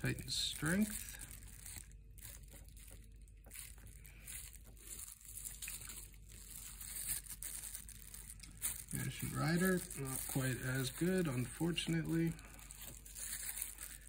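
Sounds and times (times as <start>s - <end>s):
plastic gloves crinkling: 0.0s - 14.0s.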